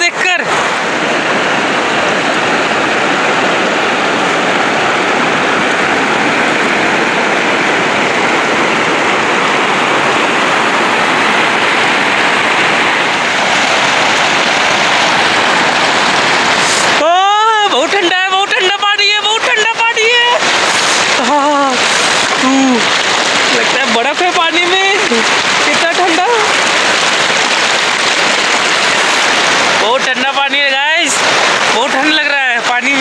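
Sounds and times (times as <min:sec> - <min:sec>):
mountain river rushing: 0:00.0 - 0:33.0.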